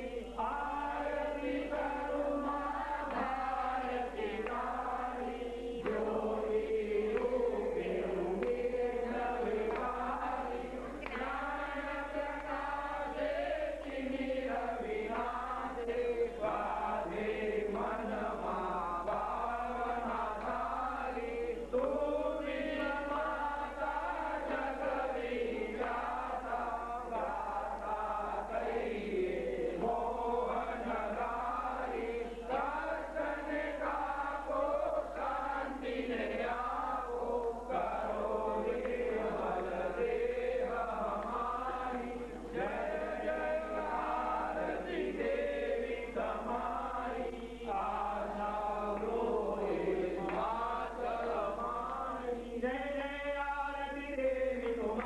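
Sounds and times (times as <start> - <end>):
group of voices chanting: 0.0 - 52.6.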